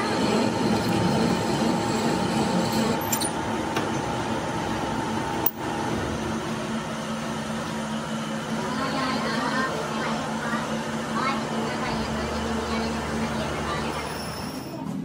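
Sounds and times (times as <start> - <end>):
lathe mechanical hum: 0.0 - 15.0.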